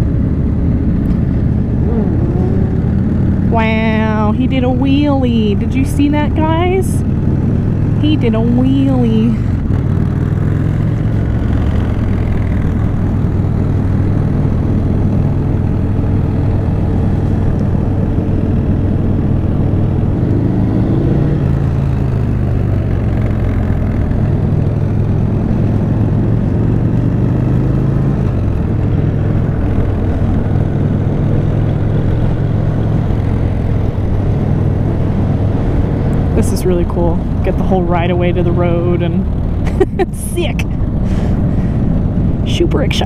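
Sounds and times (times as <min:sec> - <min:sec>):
motorcycle engines low drone: 0:00.0 - 0:43.0.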